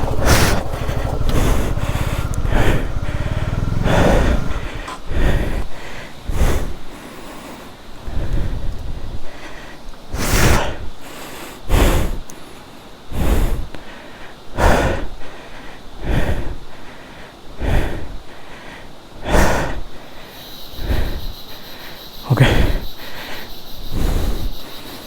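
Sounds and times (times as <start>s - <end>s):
person breathing hard: 0.0s - 25.0s.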